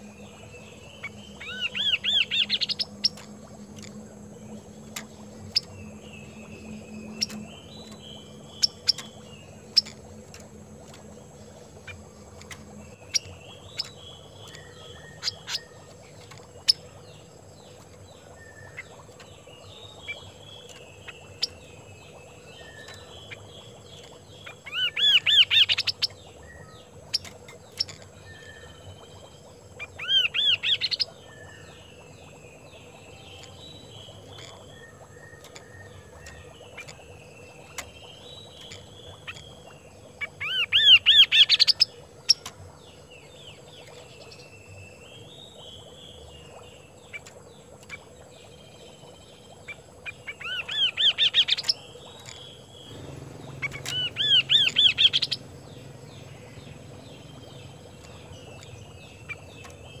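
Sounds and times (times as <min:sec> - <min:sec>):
bird song with rising notes: 0:00.0 - 1:00.0
soft bird chirping: 0:00.0 - 1:00.0.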